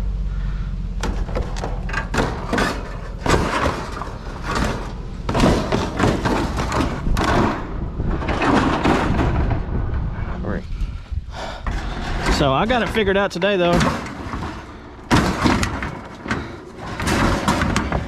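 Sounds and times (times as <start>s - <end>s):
steady low rumble: 0.0s - 18.0s
knocks and thuds: 1.0s - 18.0s.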